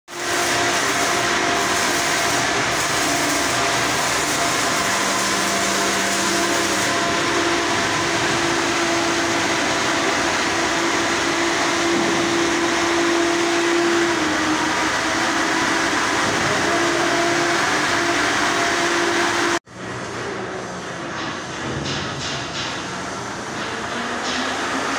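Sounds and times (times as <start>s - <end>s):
ship machinery noise: 0.1s - 24.9s.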